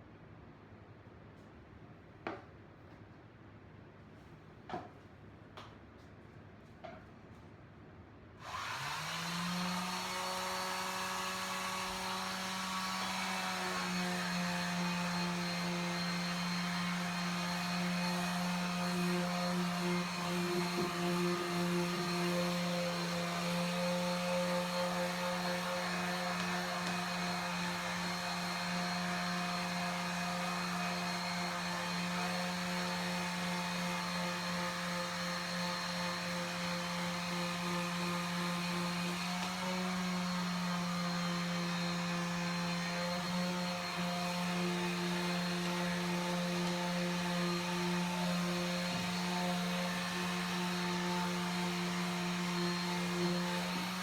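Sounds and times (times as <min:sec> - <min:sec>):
electric sander running: 0:08.4 - 0:54.0.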